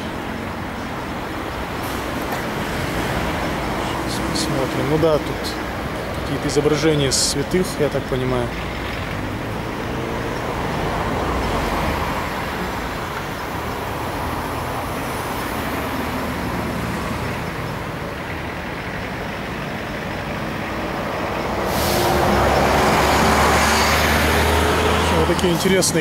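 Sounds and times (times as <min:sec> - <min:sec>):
heavy vehicle passing: 0:00.0 - 0:26.0
road traffic noise: 0:00.0 - 0:26.0.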